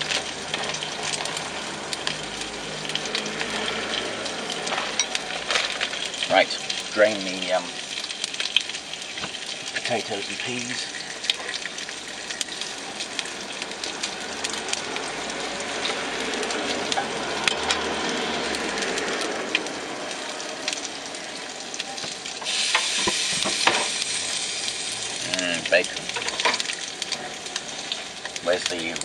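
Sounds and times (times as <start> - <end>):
bacon sizzling in a pan: 0.0 - 29.0.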